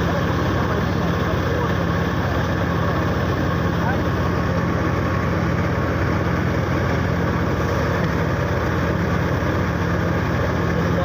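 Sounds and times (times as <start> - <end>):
tractor engine and thresher drone: 0.0 - 11.0.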